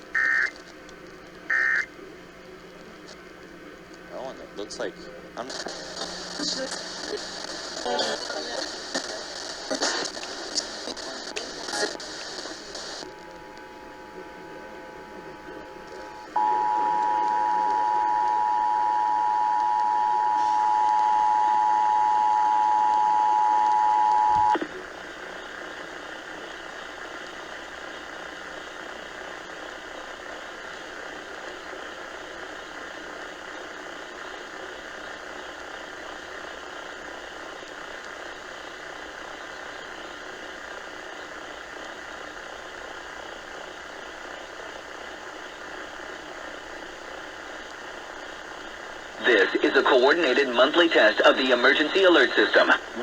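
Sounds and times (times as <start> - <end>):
radio hiss: 0.0 - 53.0.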